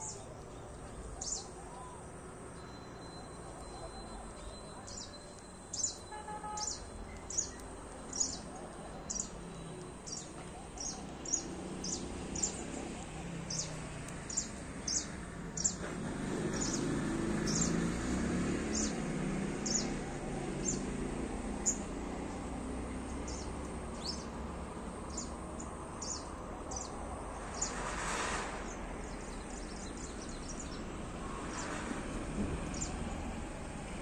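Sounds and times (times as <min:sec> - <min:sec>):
sparrows chirping: 0:00.0 - 0:34.0.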